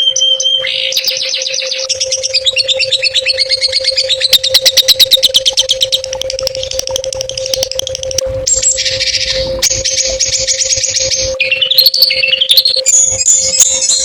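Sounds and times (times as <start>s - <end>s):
songbird chattering trill: 0.0s - 14.0s
steady low hum: 0.0s - 14.0s.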